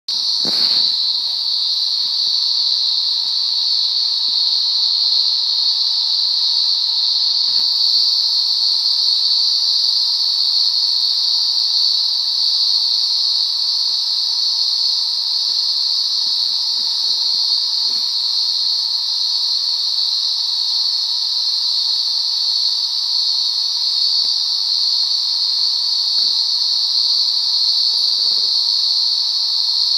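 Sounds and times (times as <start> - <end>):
high-pitched insect shrill: 0.1 - 29.9
low insect drone: 0.1 - 29.9.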